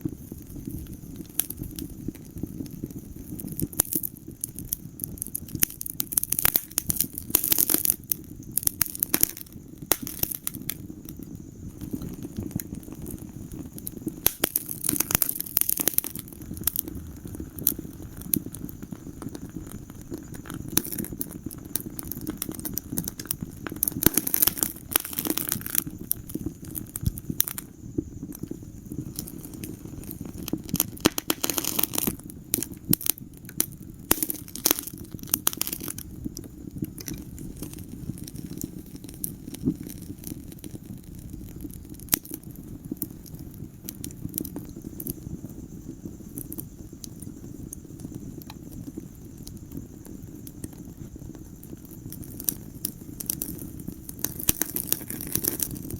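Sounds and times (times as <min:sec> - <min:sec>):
fireplace fire crackling and popping: 0:00.0 - 0:55.9.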